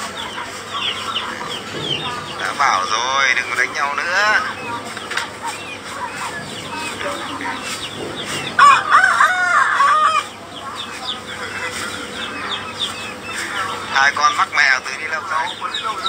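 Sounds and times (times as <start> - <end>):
chickens squawking in distress: 0.0 - 16.0.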